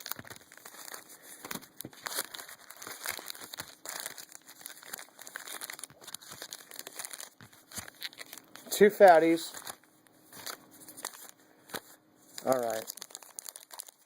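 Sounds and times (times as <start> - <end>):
wrappers crinkling and rustling: 0.0 - 14.0.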